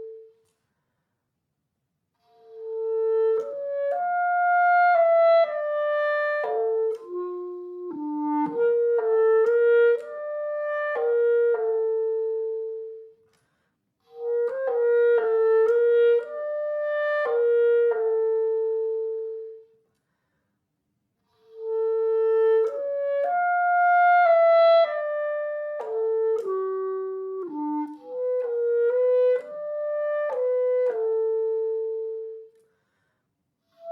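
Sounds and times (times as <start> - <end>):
solo woodwind melody: 0.0 - 0.6, 2.2 - 13.4, 14.0 - 19.8, 21.2 - 32.7, 33.6 - 33.9.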